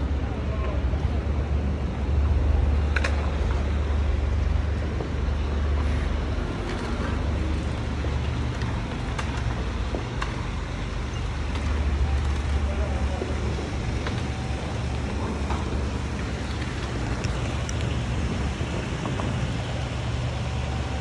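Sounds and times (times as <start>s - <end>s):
city road traffic rumble: 0.0s - 21.0s.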